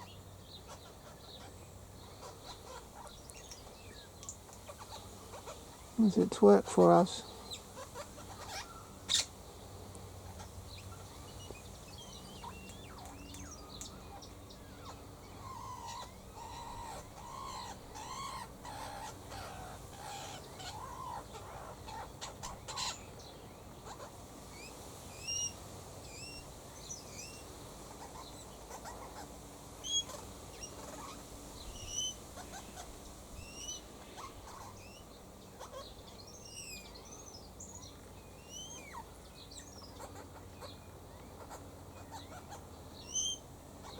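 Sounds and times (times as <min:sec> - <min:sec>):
birds arching calls: 0:00.0 - 0:43.9.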